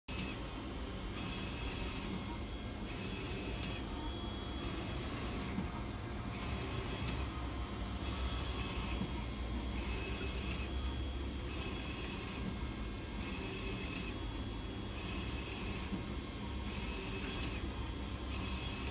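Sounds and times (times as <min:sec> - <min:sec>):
steady machine hum: 0:00.1 - 0:18.9.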